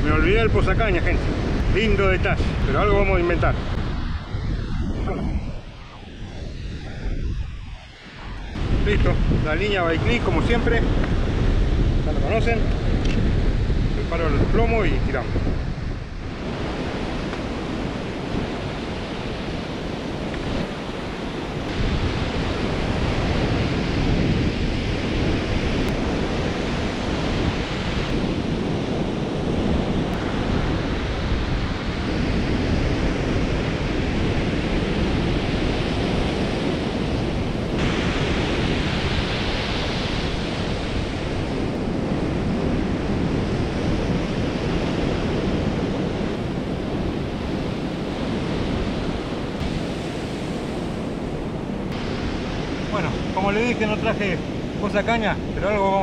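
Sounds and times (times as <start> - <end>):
ocean surf breaking: 0.0 - 56.0
wind noise on microphone: 0.0 - 56.0.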